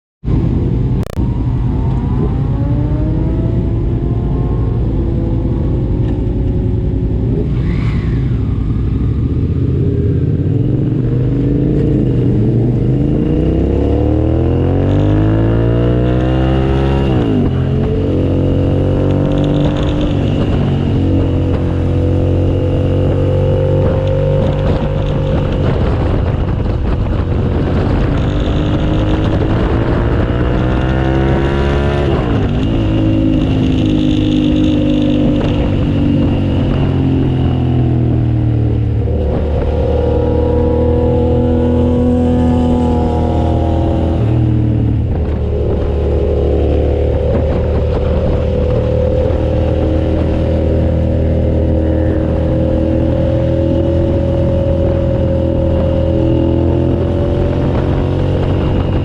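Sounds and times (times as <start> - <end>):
motorcycle engine revving: 0.3 - 59.0.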